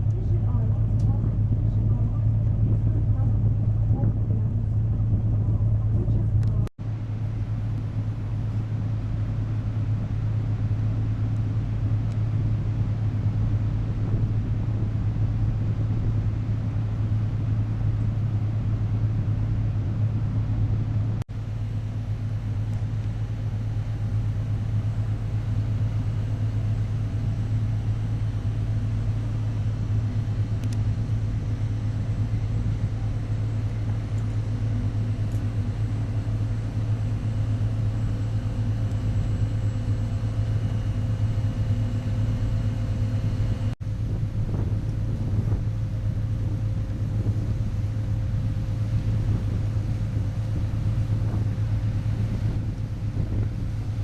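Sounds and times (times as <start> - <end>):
ship engine drone: 0.0 - 54.0.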